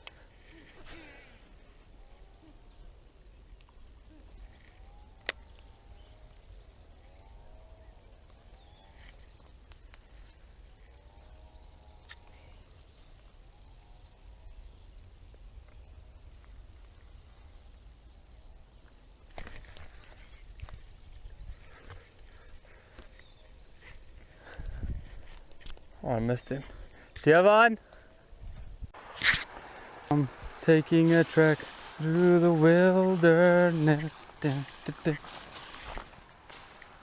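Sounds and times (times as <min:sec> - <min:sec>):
rustle: 0:00.0 - 0:37.0.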